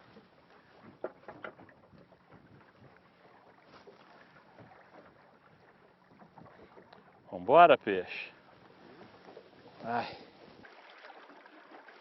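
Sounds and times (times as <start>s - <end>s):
water and wind noise: 0.0s - 12.0s.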